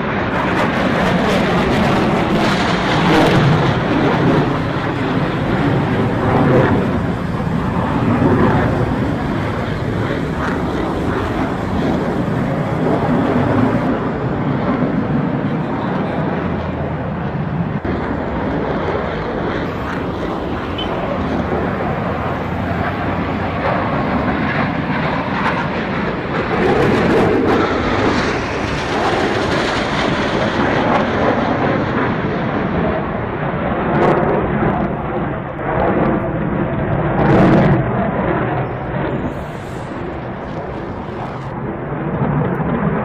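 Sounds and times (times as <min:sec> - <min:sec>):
fighter jet engine roar: 0:00.0 - 0:43.0.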